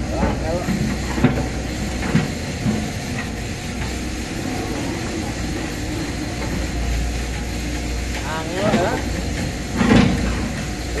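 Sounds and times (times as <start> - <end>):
excavator engine rumbling: 0.0 - 11.0.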